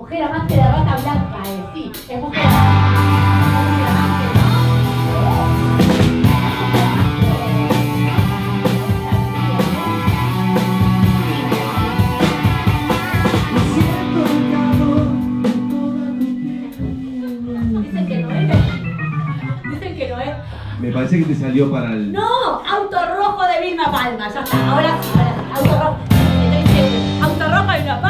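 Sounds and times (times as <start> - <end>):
bass guitar: 0.2 - 21.6, 24.4 - 28.0
drum kit: 0.3 - 19.9, 23.8 - 28.0
keyboard: 0.3 - 20.8, 24.4 - 28.0
electric guitars: 0.4 - 19.8, 24.4 - 28.0.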